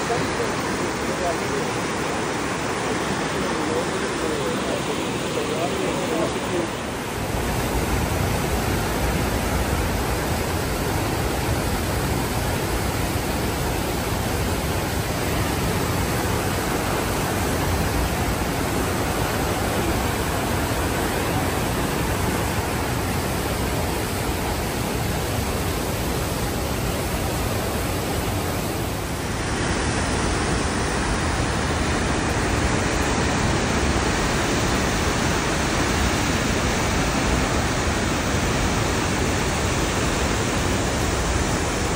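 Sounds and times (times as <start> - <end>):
waterfall rushing: 0.0 - 41.9
white water rushing over rapids: 0.0 - 41.9.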